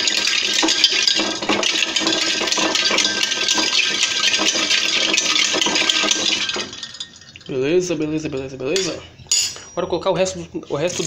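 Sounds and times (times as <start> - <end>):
ice cubes clinking in a jug: 0.0 - 9.0.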